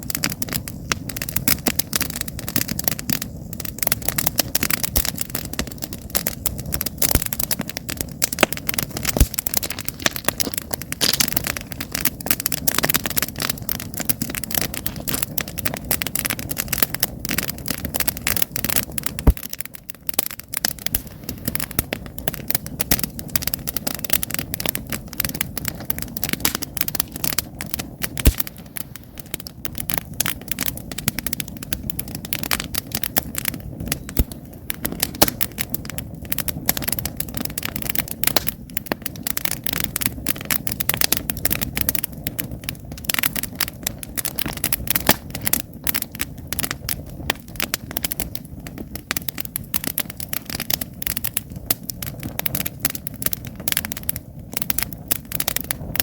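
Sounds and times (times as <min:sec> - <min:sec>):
campfire logs crackling: 0:00.0 - 0:56.0
low rumble of flames: 0:00.0 - 0:56.0
sharp pops of fire: 0:00.0 - 0:56.0.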